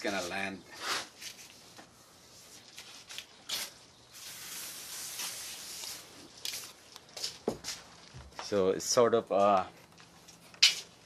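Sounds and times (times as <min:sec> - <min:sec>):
tape pulled with rustling hiss: 0:00.0 - 0:08.6, 0:09.4 - 0:11.0.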